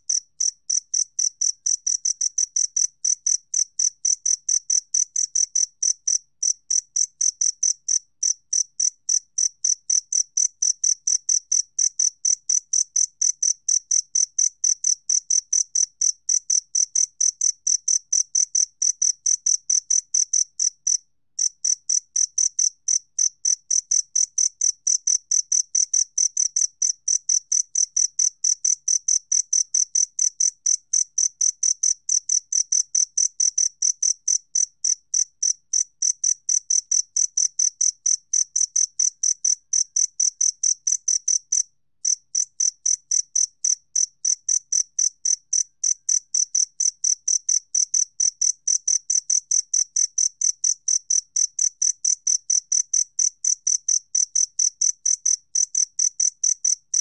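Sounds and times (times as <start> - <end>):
cricket chirping: 0.1 - 57.0.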